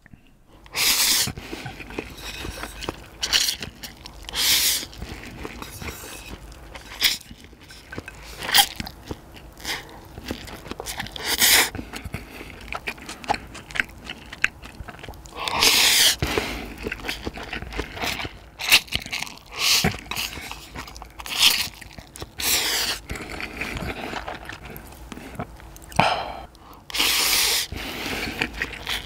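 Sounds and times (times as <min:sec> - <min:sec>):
chewing and biting: 0:00.6 - 0:29.0.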